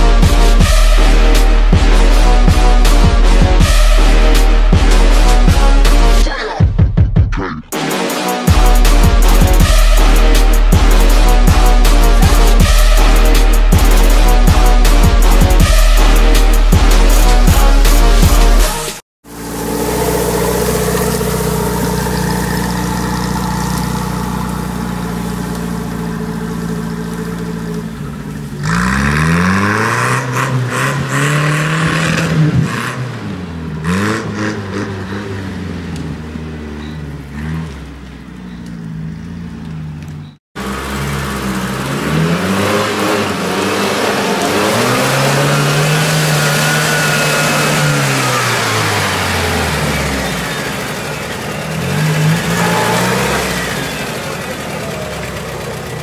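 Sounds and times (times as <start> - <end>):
off-road engine revving: 7.8 - 56.0.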